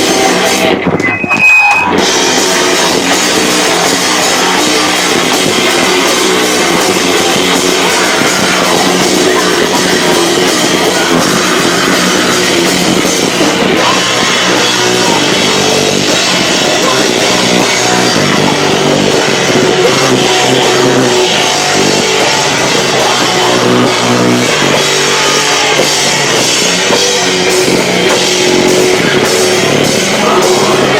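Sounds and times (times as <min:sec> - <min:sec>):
distorted live rock band: 0:00.0 - 0:30.9.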